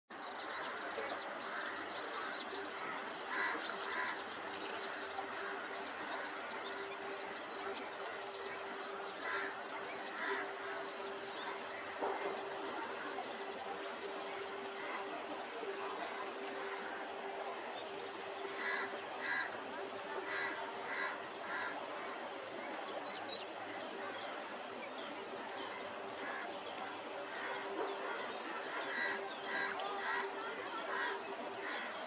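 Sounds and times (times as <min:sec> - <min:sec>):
birds chirping in chorus: 0:00.2 - 0:32.0.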